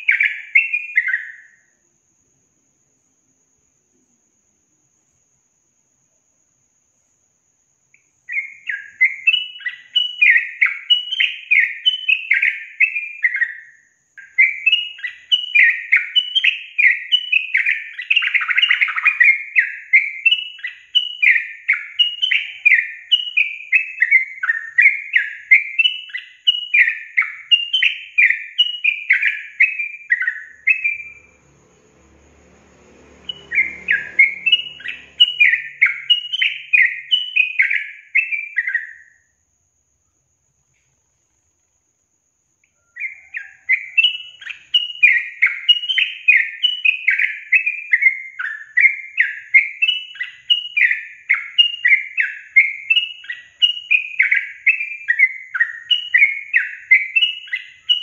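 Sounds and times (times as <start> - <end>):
bird song falling whistled notes: 0.0 - 1.8, 8.0 - 31.6, 33.1 - 39.4, 42.6 - 58.0.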